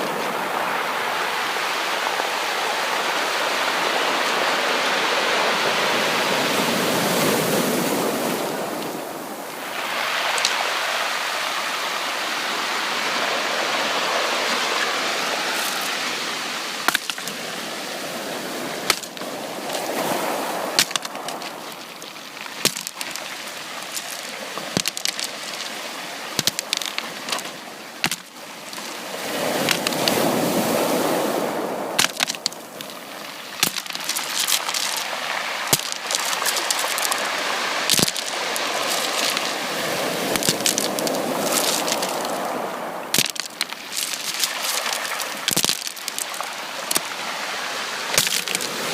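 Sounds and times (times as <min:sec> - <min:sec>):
sea water washing and sloshing: 0:00.0 - 0:48.9.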